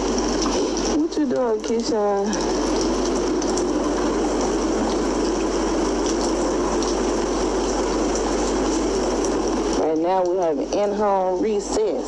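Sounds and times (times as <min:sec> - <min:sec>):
heavy rain falling: 0:00.0 - 0:12.0
raindrops ticking: 0:00.0 - 0:12.0.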